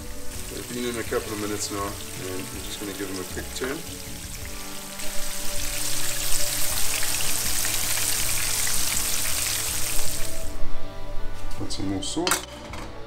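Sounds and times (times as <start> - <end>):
fish sizzling in hot oil: 0.0 - 10.5.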